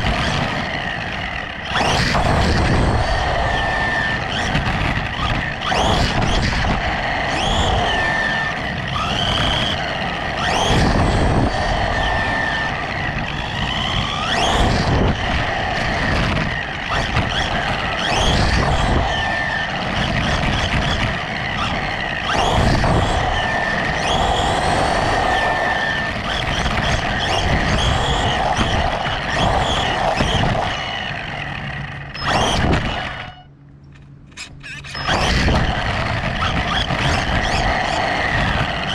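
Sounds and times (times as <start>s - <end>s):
electric motor whine: 0.0s - 33.6s, 34.6s - 38.9s
rumble of tyres on asphalt: 0.0s - 38.9s.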